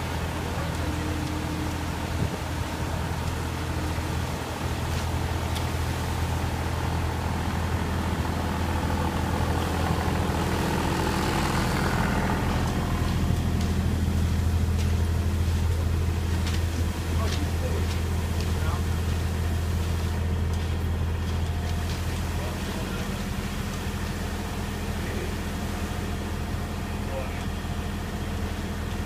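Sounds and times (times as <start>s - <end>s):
low engine drone: 0.0s - 29.0s.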